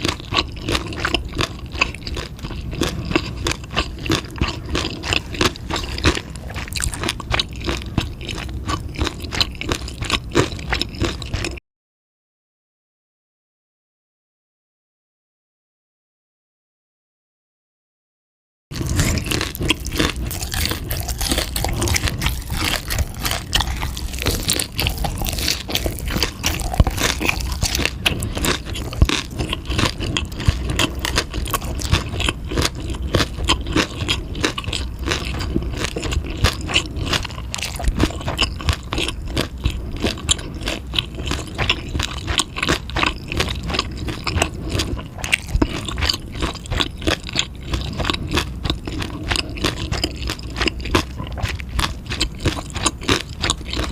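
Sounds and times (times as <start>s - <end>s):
person chewing food: 0.0s - 11.6s, 18.7s - 53.9s.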